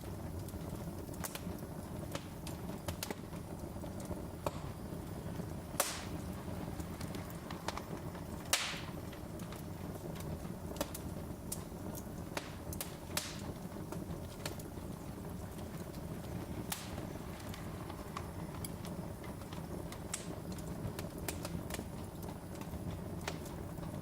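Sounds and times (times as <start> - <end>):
fire popping: 0.0 - 24.0
wood fire crackling: 0.0 - 24.0.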